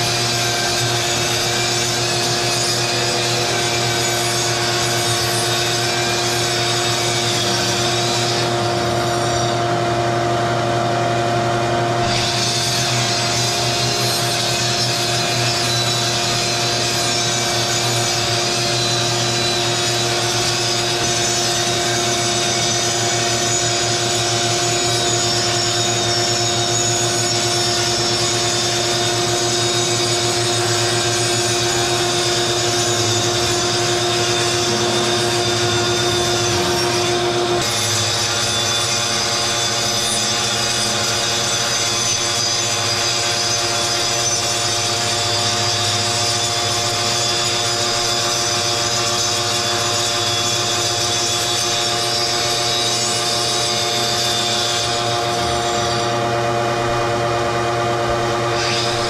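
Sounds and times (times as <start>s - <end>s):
grinder cutting through plaster wall: 0.0s - 59.0s
shop vacuum running: 0.0s - 59.0s.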